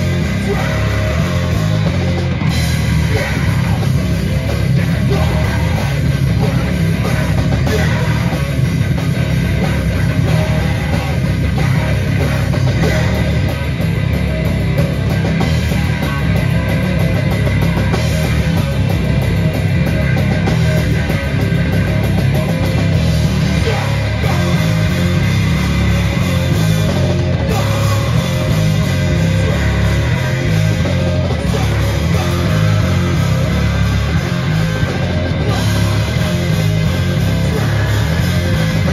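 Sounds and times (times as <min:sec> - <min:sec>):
bass guitar: 0:00.0 - 0:38.9
distorted electric guitars: 0:00.0 - 0:38.9
pounding drum kit: 0:00.0 - 0:38.9.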